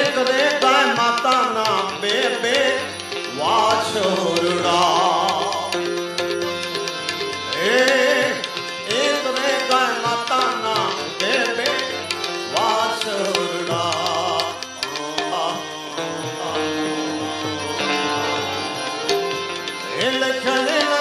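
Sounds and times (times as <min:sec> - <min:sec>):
man singing: 0:00.0 - 0:17.7, 0:19.8 - 0:21.0
harmonium chords: 0:00.0 - 0:21.0.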